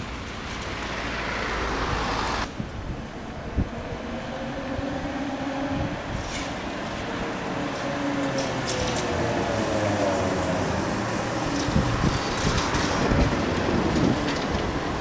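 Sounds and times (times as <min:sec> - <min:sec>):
trolleybus electric whine: 0:00.0 - 0:15.0
tyre and road noise: 0:00.0 - 0:15.0.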